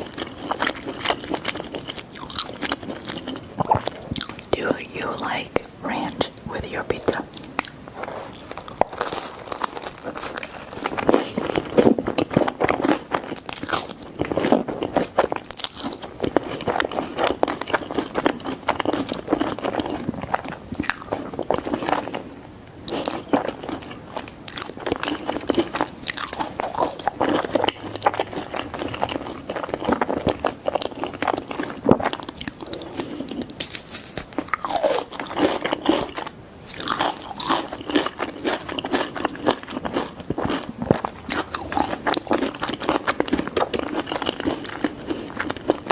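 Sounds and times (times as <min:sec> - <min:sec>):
wet chewing: 0:00.0 - 0:45.9
crisp crust crunching: 0:07.1 - 0:22.3, 0:22.9 - 0:45.9.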